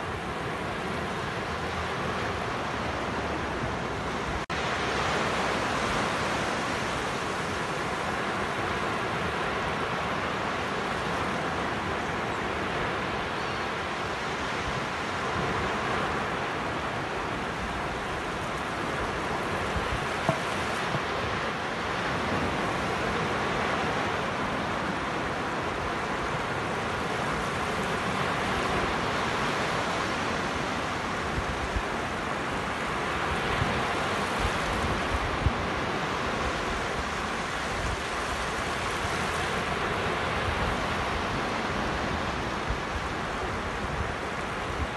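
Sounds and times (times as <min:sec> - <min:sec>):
surf breaking on a beach: 0:00.0 - 0:44.9.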